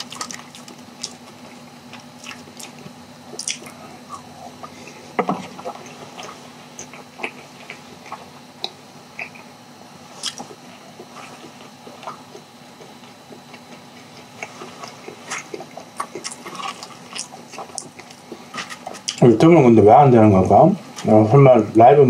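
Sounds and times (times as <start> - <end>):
close chewing mouth clicks: 0.0 - 4.9, 5.6 - 9.5, 10.2 - 19.2.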